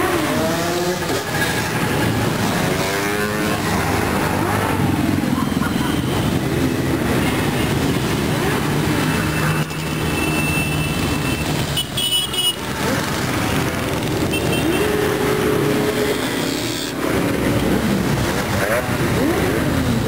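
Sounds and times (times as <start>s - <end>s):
engine revving: 0.0s - 10.0s, 12.8s - 20.0s
motorcycles and scooters riding past: 0.0s - 11.8s, 12.6s - 20.0s.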